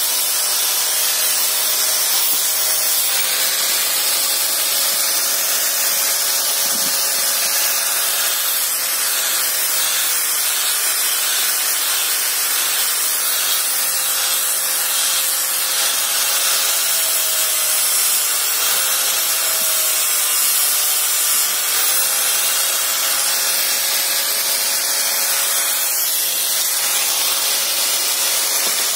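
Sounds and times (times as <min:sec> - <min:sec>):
angle grinder sanding wood: 0:00.0 - 0:28.9.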